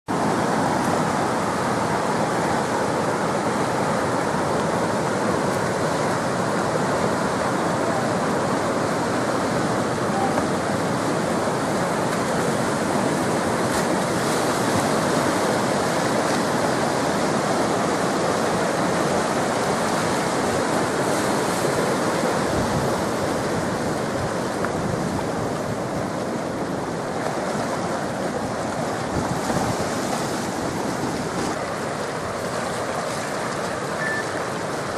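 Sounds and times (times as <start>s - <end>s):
whitewater rapids rushing: 0.1s - 34.9s.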